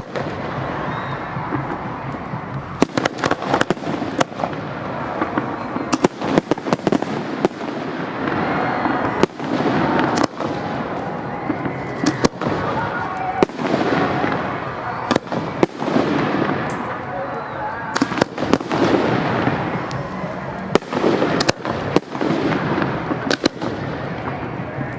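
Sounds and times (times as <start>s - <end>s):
fireworks crackle and rumble: 0.0s - 24.9s.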